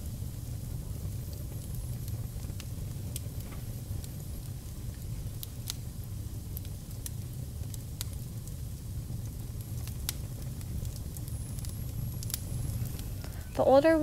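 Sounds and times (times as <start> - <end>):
fire crackling: 0.0 - 14.0
fire pops and snaps: 0.0 - 14.0.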